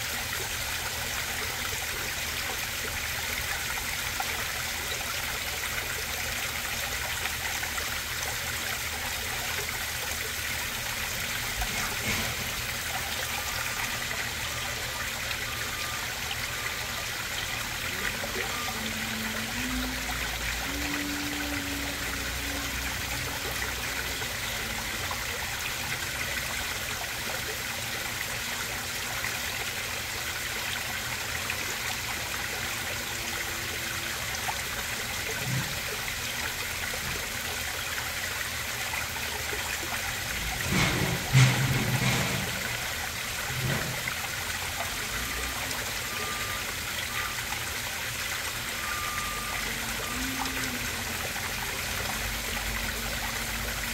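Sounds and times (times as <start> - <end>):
waterfall splashing over rocks: 0.0 - 53.9.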